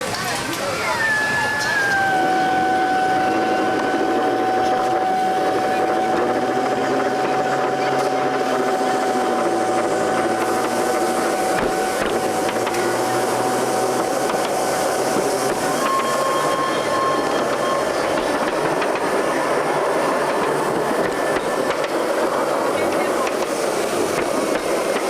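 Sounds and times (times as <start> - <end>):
miniature train high whine: 0.0 - 25.0
train rolling noise: 0.0 - 25.0.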